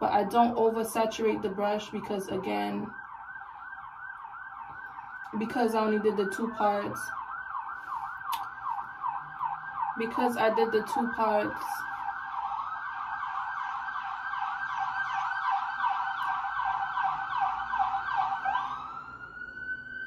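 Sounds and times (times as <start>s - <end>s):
siren yelping: 0.0s - 20.0s.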